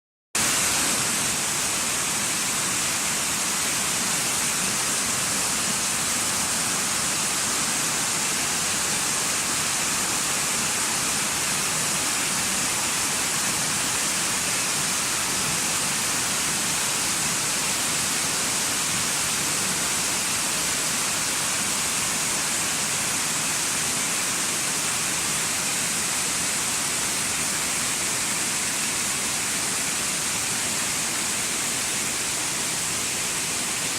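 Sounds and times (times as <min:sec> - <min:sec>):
waterfall rushing: 0:00.4 - 0:33.9.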